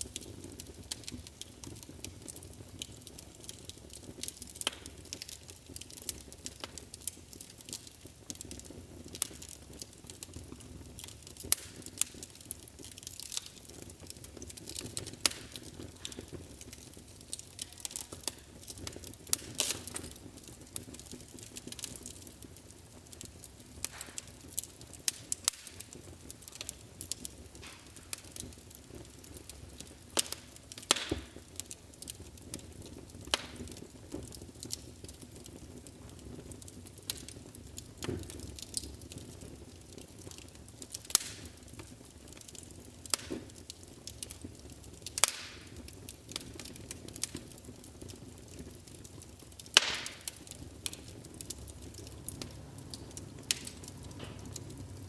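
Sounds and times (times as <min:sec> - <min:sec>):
low hiss of flames: 0:00.0 - 0:55.0
wood fire crackling and popping: 0:00.0 - 0:55.0.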